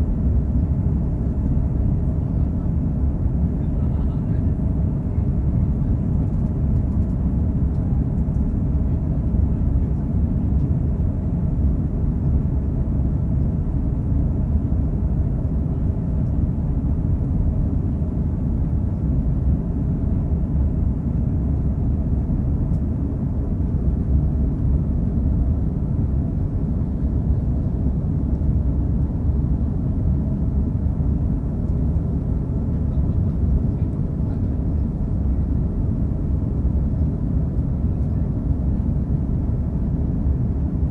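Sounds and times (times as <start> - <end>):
airplane cabin engine roar: 0.0 - 40.9.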